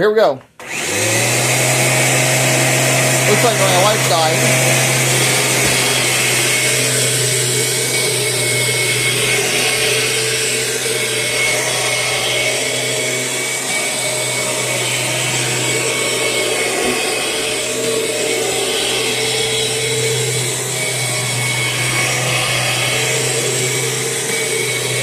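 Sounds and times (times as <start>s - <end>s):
vacuum cleaner motor hum: 0.6s - 25.0s.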